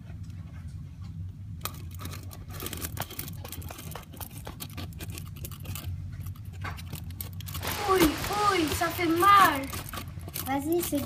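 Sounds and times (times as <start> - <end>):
steady low hum: 0.0 - 11.0
toys clicking and tapping: 1.6 - 11.0.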